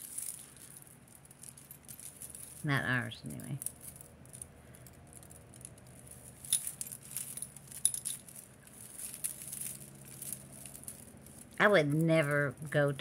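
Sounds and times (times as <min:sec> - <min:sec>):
jewelry clinking and rattling: 0:00.0 - 0:13.0.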